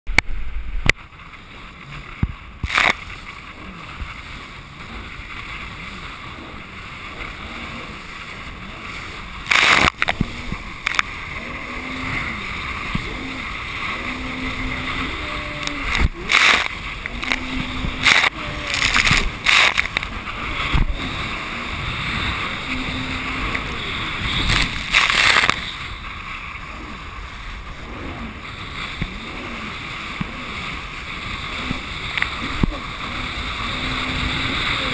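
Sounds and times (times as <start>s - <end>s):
jet ski engine: 0.1s - 34.9s
water slapping against hull: 0.8s - 34.7s.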